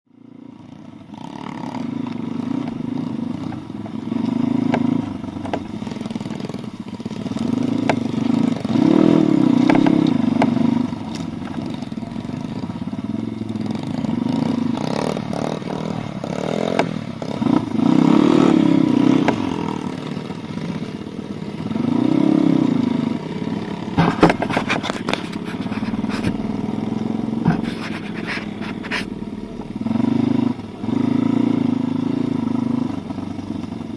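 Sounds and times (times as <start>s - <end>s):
small motorcycle engine revving: 0.2s - 33.9s.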